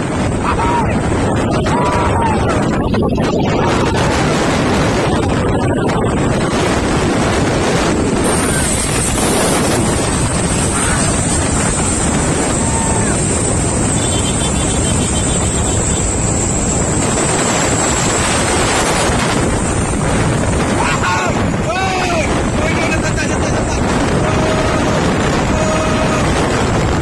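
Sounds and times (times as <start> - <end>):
road and engine noise: 0.0 - 27.0
wind rushing over microphone: 0.0 - 27.0.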